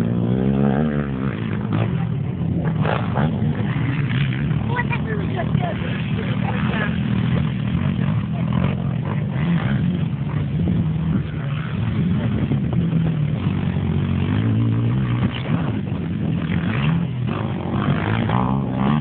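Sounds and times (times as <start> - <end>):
quad bike engines revving: 0.0 - 19.0.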